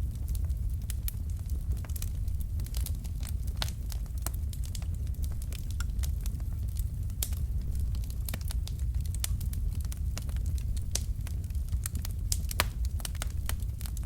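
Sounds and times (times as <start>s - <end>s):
burning logs crackling: 0.0s - 14.0s
low rumble of flames: 0.0s - 14.0s.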